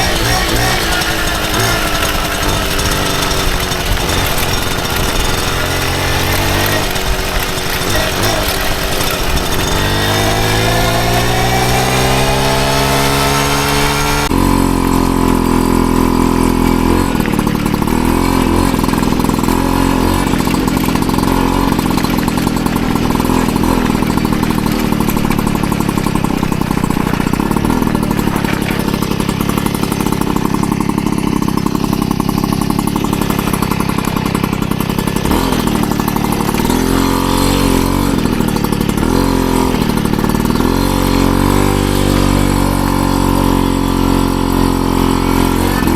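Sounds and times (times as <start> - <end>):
moped engine revving: 0.0 - 45.9.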